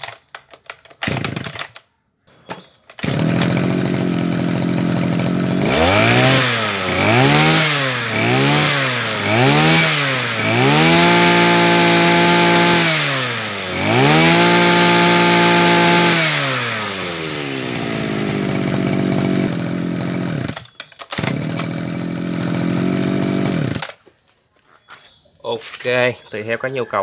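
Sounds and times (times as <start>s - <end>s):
brush cutter engine revving: 1.0s - 1.7s, 3.0s - 24.0s.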